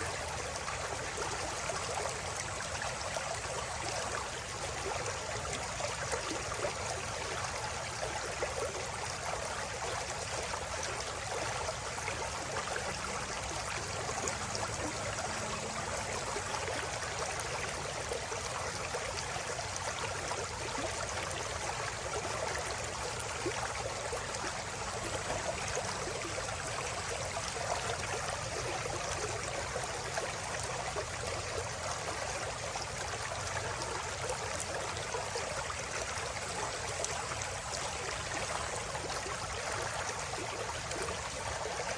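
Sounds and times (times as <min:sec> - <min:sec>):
river water babbling over rocks: 0:00.0 - 0:41.9.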